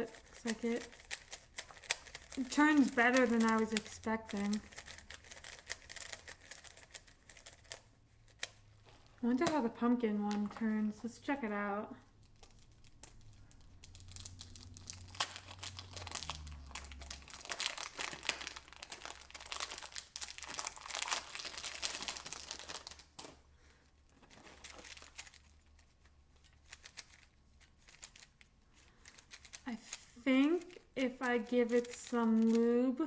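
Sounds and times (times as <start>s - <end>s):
plastic packaging crinkling: 0.0s - 10.8s, 12.0s - 33.0s.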